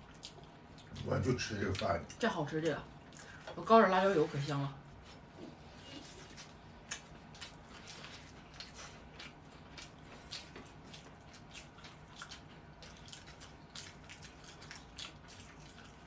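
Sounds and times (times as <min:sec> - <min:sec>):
people chewing crunchy leaves: 0:00.0 - 0:03.5, 0:05.0 - 0:16.0.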